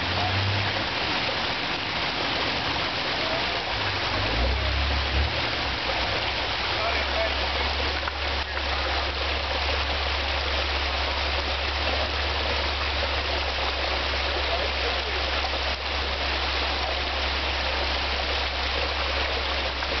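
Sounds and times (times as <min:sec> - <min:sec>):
creek water over rocks: 0:00.0 - 0:20.0.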